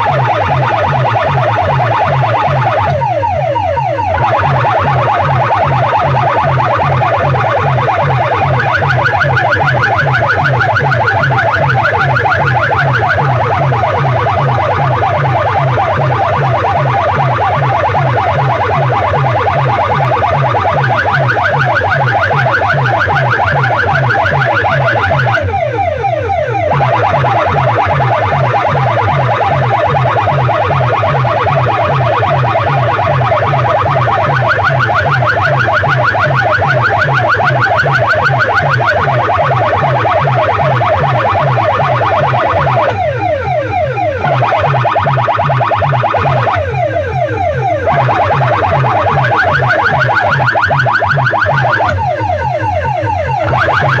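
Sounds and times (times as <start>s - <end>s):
electronic warbling alarm tone: 0.0s - 54.0s
fast pulsing bass beat: 0.0s - 54.0s.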